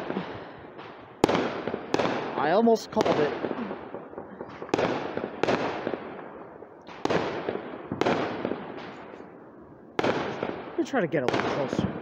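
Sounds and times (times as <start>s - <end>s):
faint fireworks crackles: 0.0s - 12.0s
fireworks bursting with echoing rumble: 0.0s - 12.0s.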